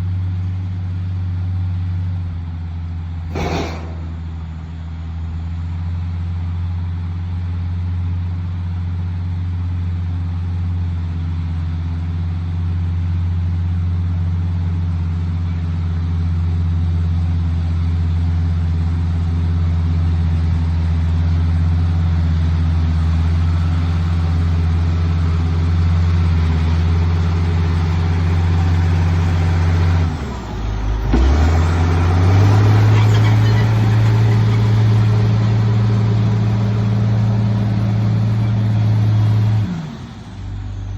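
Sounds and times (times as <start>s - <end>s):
vehicle engine running under load: 0.0s - 40.9s.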